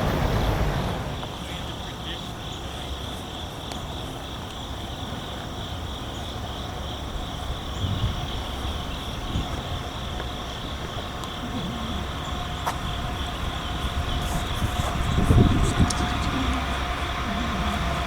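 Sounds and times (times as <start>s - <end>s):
insects trilling: 0.0s - 18.0s
train rumbling: 0.0s - 18.0s.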